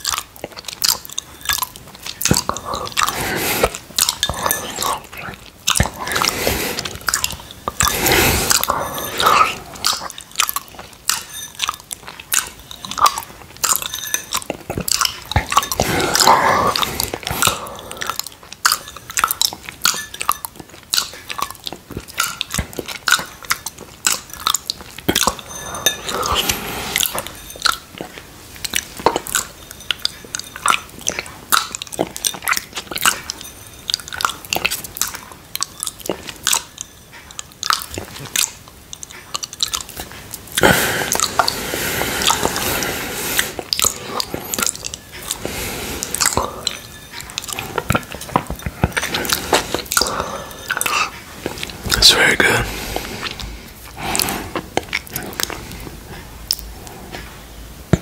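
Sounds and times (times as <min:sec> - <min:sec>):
slurping: 0:00.0 - 0:58.0
wet tongue licking and lip smacks: 0:00.0 - 0:58.0.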